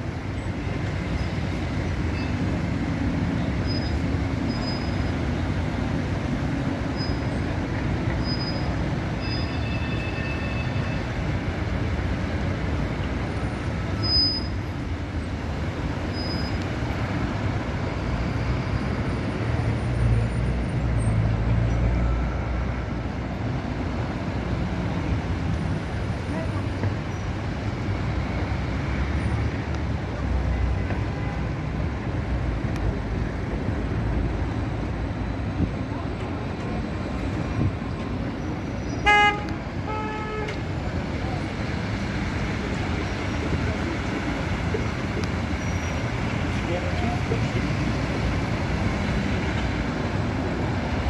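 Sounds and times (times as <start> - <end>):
heavy vehicle rumble: 0.0 - 51.0
road traffic: 0.0 - 51.0.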